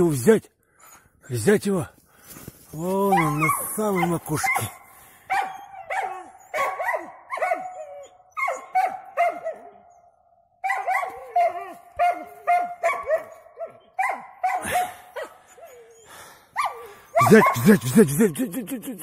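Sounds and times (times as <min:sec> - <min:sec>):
dogs barking: 0:03.0 - 0:18.5.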